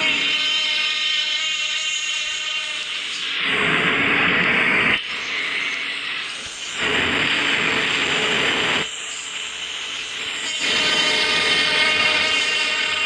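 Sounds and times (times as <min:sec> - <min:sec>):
rushing rail noise: 0:00.0 - 0:01.0, 0:02.8 - 0:13.0
faint high whine: 0:00.0 - 0:13.0.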